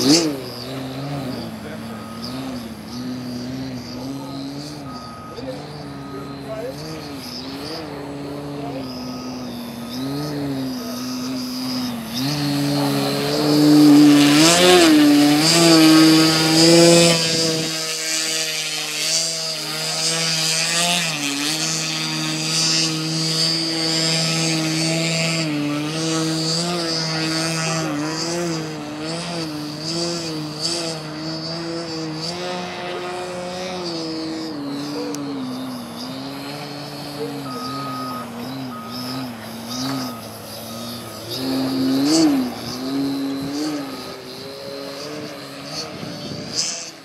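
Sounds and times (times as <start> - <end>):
electric motor buzzing: 0.0 - 47.0
thin high whine: 0.0 - 47.0.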